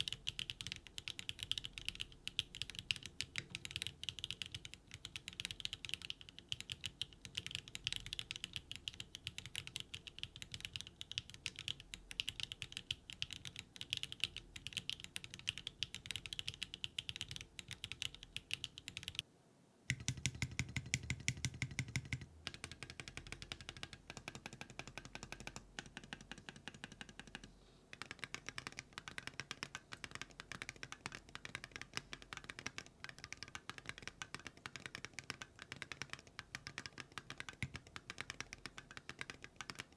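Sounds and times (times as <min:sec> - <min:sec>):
typing on mechanical keyboard: 0:00.0 - 0:19.2, 0:19.9 - 0:39.9.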